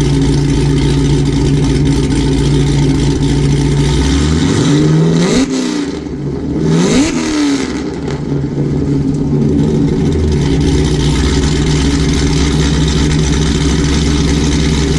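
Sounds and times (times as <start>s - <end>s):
choppy engine idle: 0.0s - 5.2s, 7.8s - 14.9s
car engine revving: 0.0s - 14.9s.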